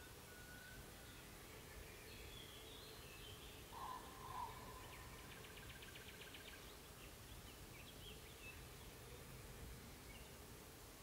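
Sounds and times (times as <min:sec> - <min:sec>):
nightingale singing faintly: 0:00.0 - 0:10.6.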